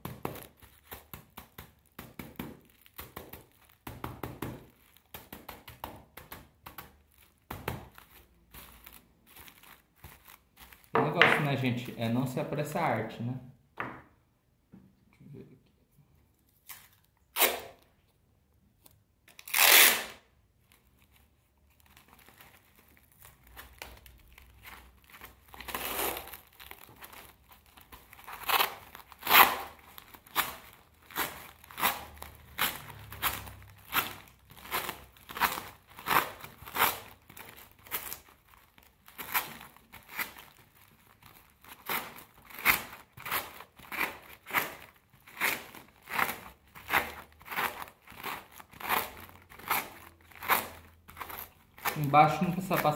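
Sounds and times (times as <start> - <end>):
masking tape ripping: 0.0 - 12.2, 16.6 - 17.9, 19.2 - 21.2, 21.8 - 52.9
foil crinkling: 0.0 - 12.8, 19.3 - 52.9.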